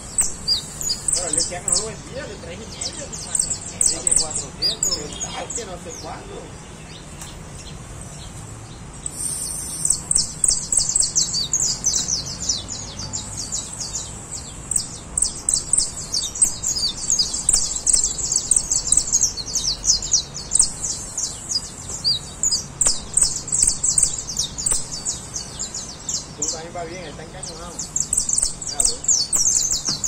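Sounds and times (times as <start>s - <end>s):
finch singing high chirps: 0.0s - 30.0s.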